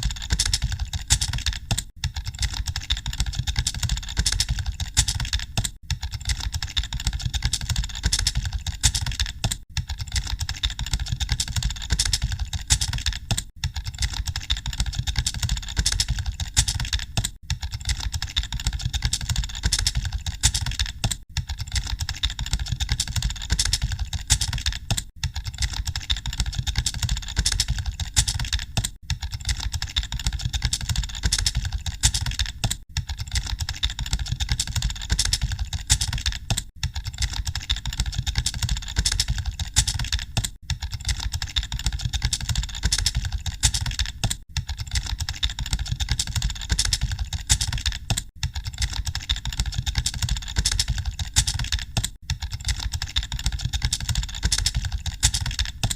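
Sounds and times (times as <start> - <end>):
rapid keyboard typing: 0.0 - 55.9.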